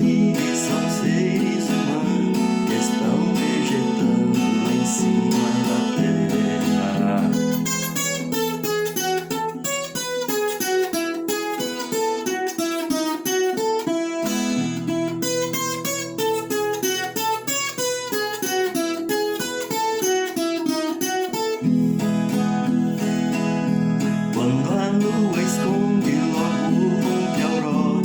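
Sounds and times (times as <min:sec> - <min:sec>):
plucked guitar melody: 0:00.0 - 0:28.0
strummed chords: 0:00.0 - 0:28.0.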